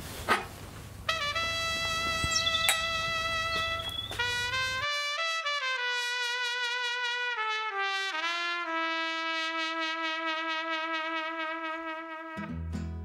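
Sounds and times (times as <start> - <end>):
slow horn melody: 1.1 - 12.7.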